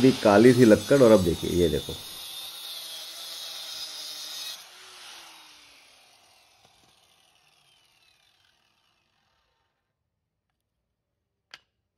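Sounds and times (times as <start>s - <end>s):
circular saw cutting wood: 0.0s - 9.9s
saw motor whine spinning down: 0.0s - 9.9s.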